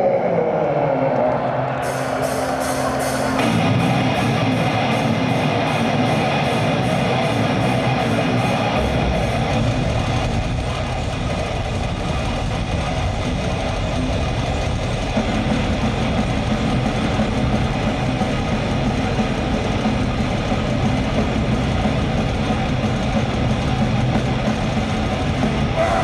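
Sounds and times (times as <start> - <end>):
extreme metal band playing live: 1.0 - 26.0.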